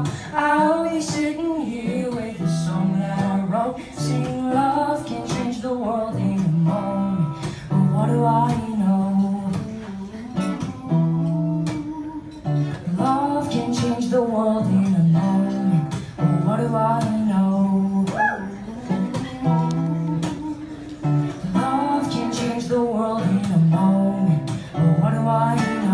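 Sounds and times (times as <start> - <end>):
acoustic guitar strumming: 0.0 - 25.9
man singing: 0.0 - 25.9.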